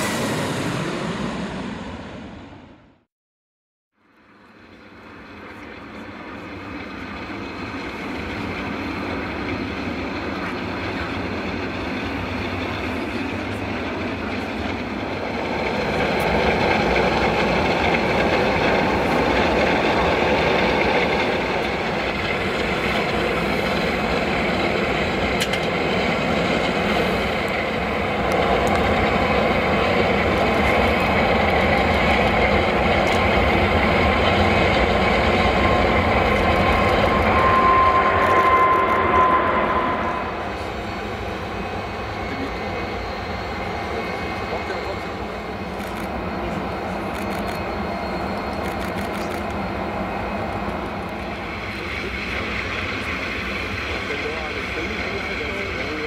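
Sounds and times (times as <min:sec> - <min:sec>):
jet engines at takeoff thrust: 0:00.0 - 0:03.1, 0:04.0 - 0:56.0.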